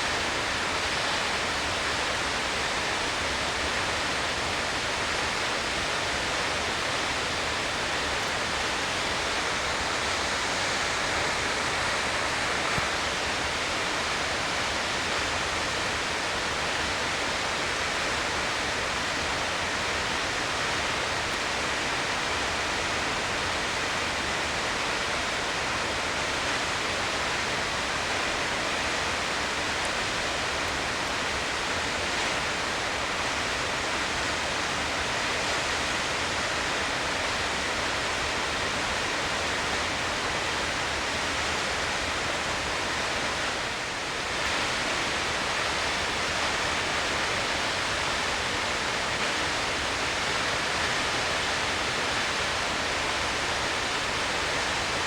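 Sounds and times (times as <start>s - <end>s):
waterfall rushing and splashing: 0.0s - 55.0s.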